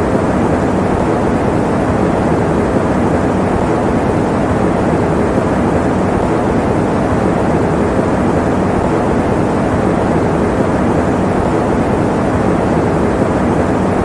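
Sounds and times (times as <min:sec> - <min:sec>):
electric fan running: 0:00.0 - 0:14.0.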